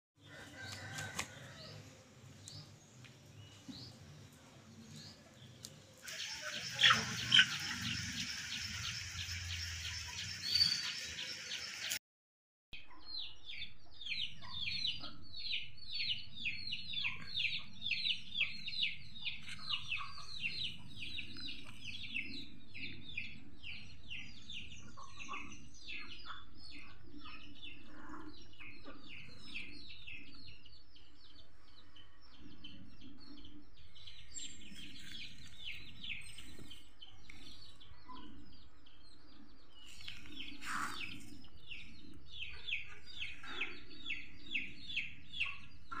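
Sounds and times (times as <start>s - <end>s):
chickens peeping: 4.8s - 11.9s, 12.9s - 46.0s.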